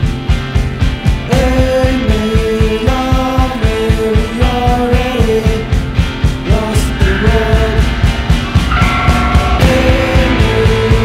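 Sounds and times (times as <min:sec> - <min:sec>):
bass guitar: 0:00.0 - 0:11.0
electric guitar: 0:00.0 - 0:11.0
fast driving drum beat: 0:00.0 - 0:11.0.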